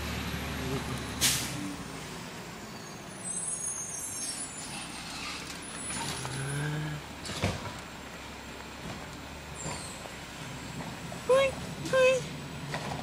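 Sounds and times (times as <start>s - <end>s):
garbage truck engine droning: 0.0s - 13.0s.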